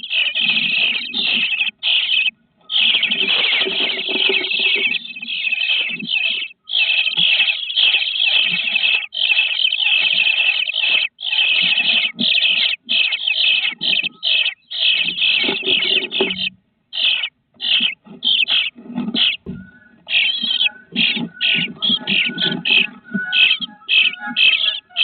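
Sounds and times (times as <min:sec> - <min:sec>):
nestling birds calling: 0:00.0 - 0:25.0.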